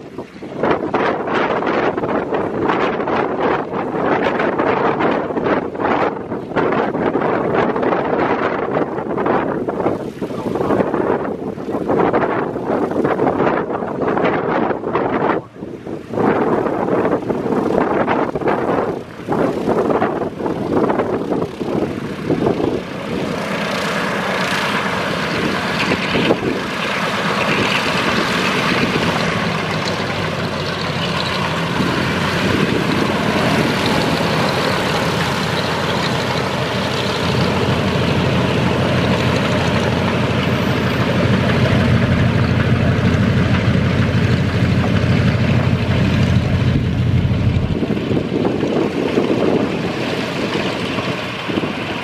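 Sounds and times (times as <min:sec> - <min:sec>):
propeller plane engines droning: 0:00.0 - 0:52.0.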